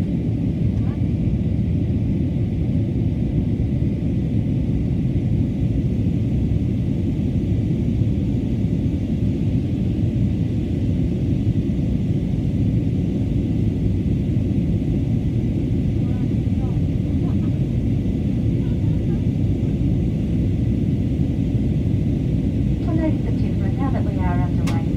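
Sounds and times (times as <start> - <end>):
jet engine and airflow cabin rumble: 0.0 - 24.9.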